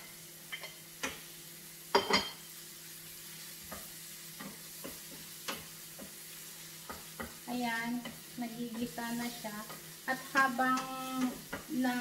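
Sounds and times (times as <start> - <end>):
vegetables sizzling in oil: 0.0 - 12.0
wooden spoon scraping a pan: 2.2 - 12.0.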